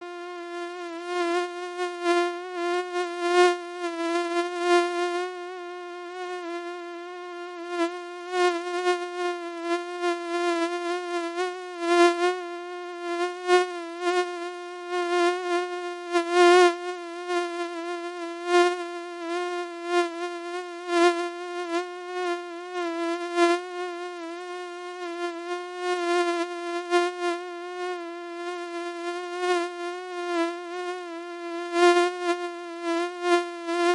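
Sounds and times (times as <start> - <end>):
mosquito wing whine: 0.0 - 33.9.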